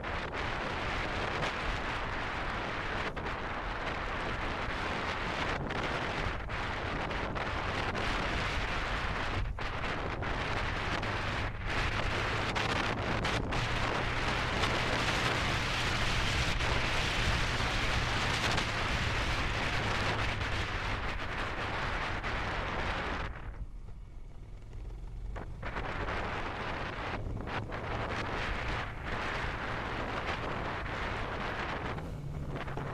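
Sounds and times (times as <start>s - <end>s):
motorcycle engine hum: 0.0s - 32.9s
wind rushing over microphone: 0.0s - 32.9s.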